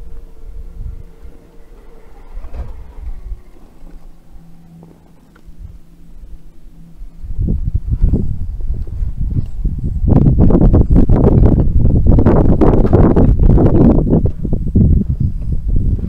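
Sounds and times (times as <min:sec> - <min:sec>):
electric motor whining: 0:00.0 - 0:16.0
low knocking and rumble: 0:00.0 - 0:16.0.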